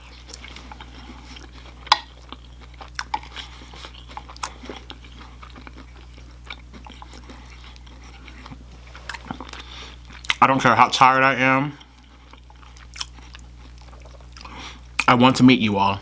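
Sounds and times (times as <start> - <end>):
chewing and biting food: 0.0 - 15.3
low electrical hum: 0.0 - 16.0.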